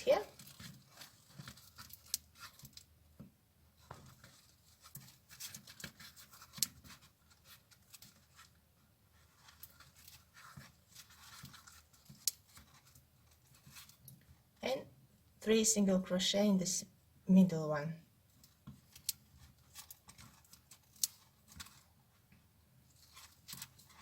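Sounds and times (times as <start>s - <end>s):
crochet hook rustling raffia yarn: 0.0s - 14.8s, 18.2s - 24.0s.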